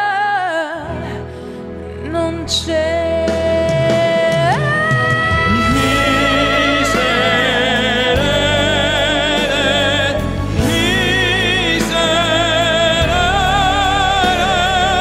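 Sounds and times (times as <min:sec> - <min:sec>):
backing track music: 0:00.0 - 0:15.0
tenor and soprano singing duet: 0:02.0 - 0:15.0.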